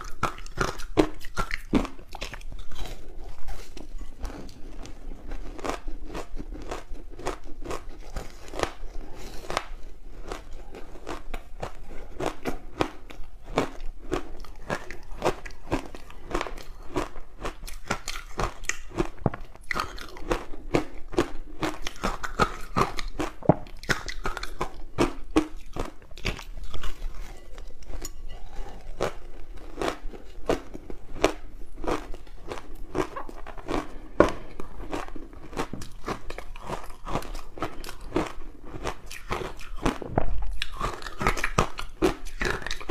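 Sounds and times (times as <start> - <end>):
chewing crunchy ice: 0.0 - 42.9.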